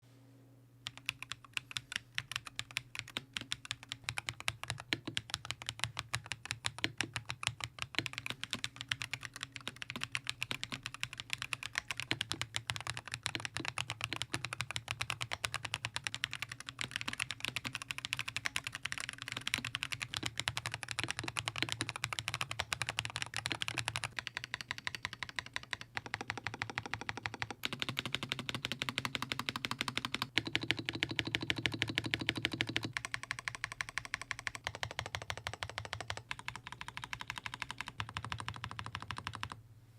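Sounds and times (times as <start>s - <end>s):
mechanical keyboard typing: 0.8s - 39.6s.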